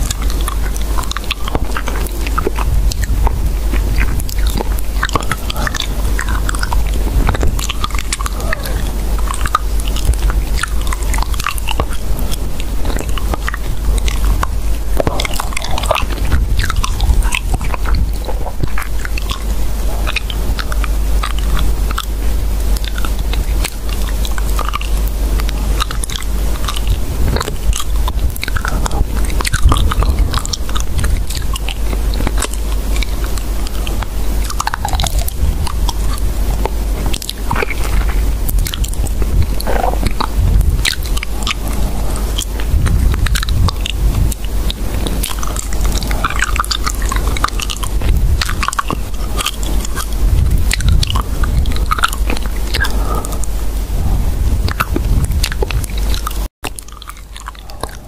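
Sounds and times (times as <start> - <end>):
close-up crunching and chewing: 0.0 - 58.0
steady low hum: 0.0 - 58.0.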